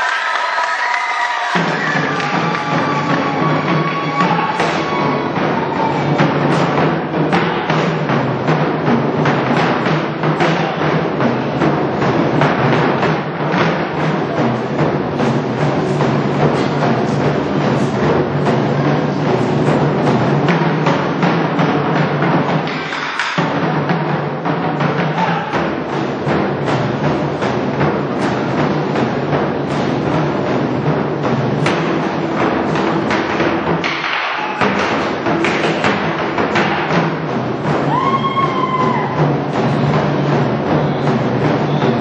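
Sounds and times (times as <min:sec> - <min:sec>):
fast drumming ensemble: 0:00.0 - 0:42.0.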